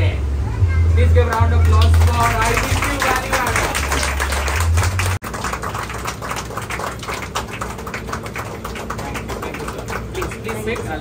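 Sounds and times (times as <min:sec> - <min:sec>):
small group applauding: 0:01.3 - 0:11.0.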